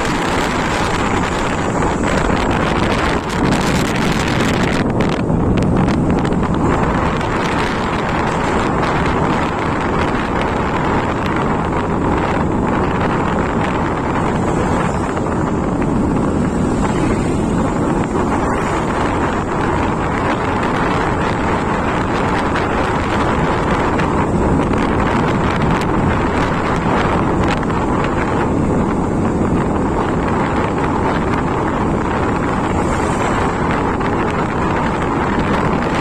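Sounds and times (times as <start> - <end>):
motorcycle road noise: 0.0 - 36.0
wind rushing over microphone: 0.0 - 36.0.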